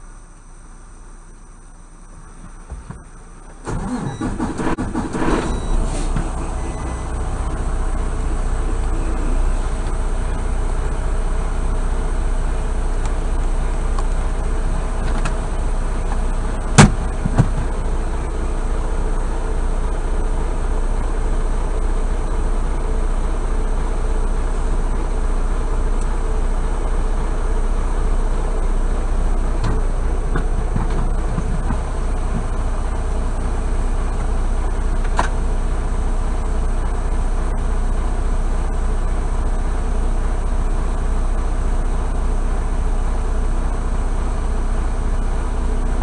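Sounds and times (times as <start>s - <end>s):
diesel truck engine idling: 0.0s - 46.0s.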